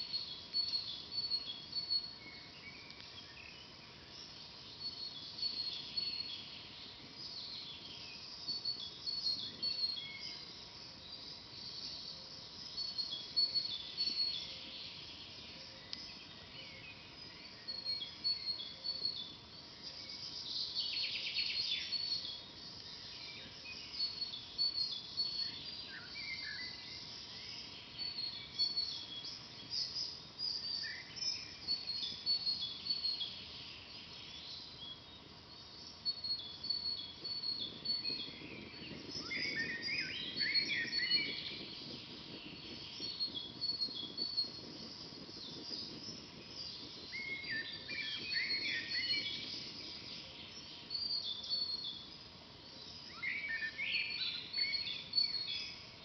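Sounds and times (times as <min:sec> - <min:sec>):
forest birds singing: 0:00.0 - 0:56.0
steady low hiss: 0:00.0 - 0:56.0.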